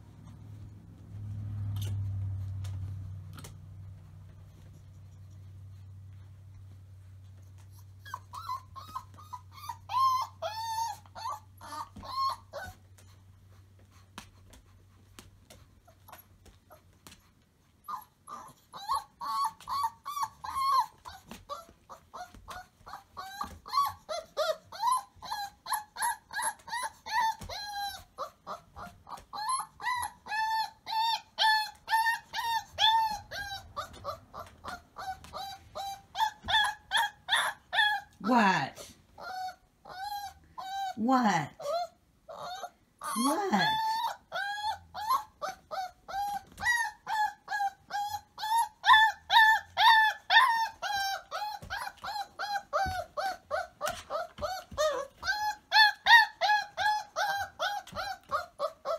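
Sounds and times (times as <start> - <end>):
puppy whining and yipping: 0.0 - 58.9.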